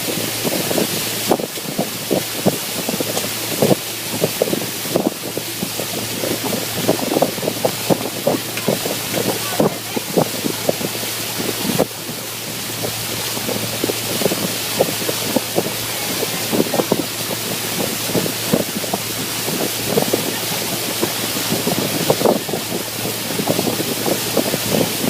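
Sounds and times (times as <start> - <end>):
water rushing: 0.0 - 25.0
wind buffeting microphone: 0.0 - 25.0.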